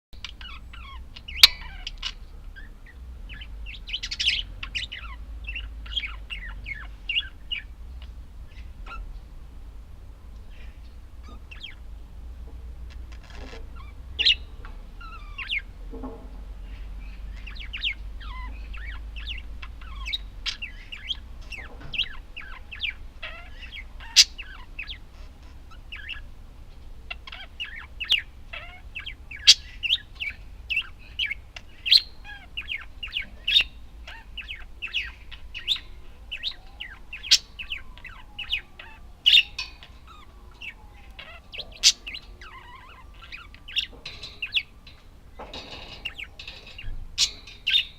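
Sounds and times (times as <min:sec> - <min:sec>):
budgerigars chattering and chirping: 0:00.2 - 0:09.3, 0:10.4 - 0:11.9, 0:12.7 - 0:47.9.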